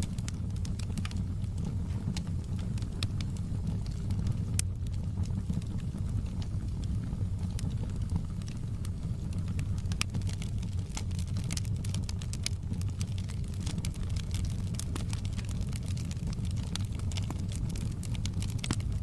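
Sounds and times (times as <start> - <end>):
burning wood crackling and popping: 0.0 - 19.0
low rumble of flames: 0.0 - 19.0.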